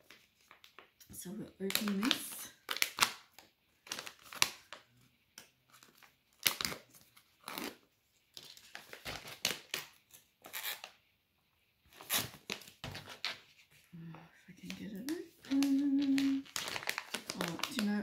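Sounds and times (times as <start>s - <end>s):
plastic packaging crinkling: 0.0s - 4.9s, 5.7s - 11.0s, 11.9s - 13.9s, 14.6s - 18.0s.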